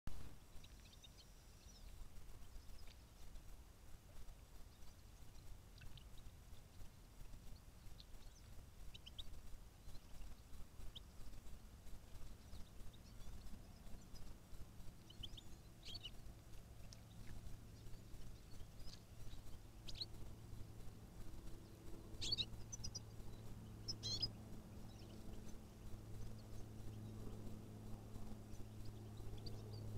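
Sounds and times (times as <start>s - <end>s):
low steady hum: 0.1s - 29.9s
small birds chirping: 0.1s - 29.9s.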